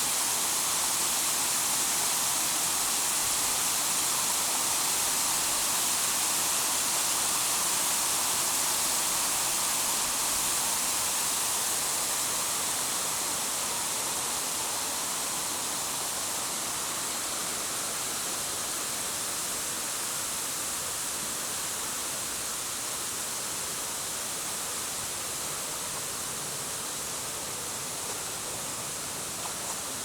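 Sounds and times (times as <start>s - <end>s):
waterfall roar: 0.0s - 30.0s.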